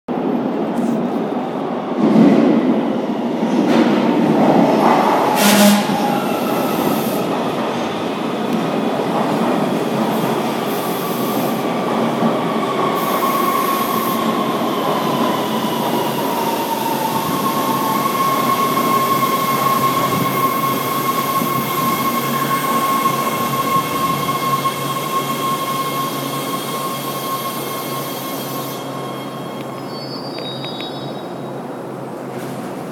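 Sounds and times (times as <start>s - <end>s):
subway train running noise: 0.1s - 32.9s.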